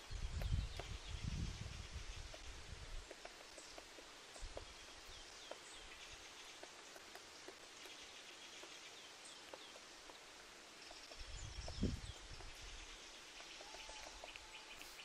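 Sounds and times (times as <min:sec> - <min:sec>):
soft hiss: 0:00.0 - 0:15.0
light ticks: 0:02.2 - 0:15.0.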